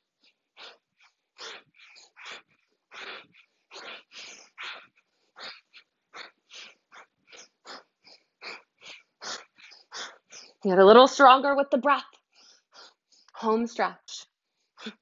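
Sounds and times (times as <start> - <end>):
woman breathing rapidly: 0.0 - 10.7, 12.2 - 13.4, 14.4 - 15.0.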